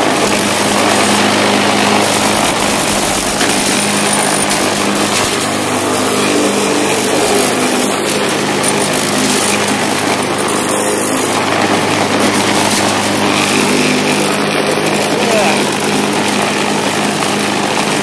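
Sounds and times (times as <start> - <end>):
lawn mower running: 0.0 - 18.0.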